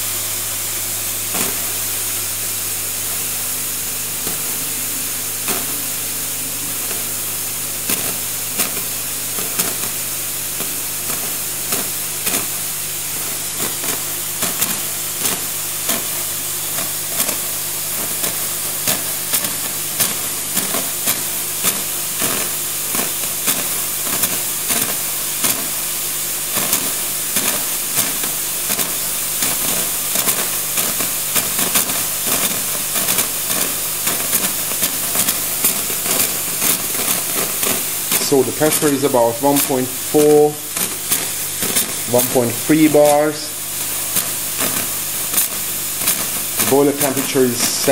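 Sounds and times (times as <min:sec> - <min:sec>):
pump humming: 0:00.0 - 0:47.9
steam wand hissing: 0:00.0 - 0:47.9.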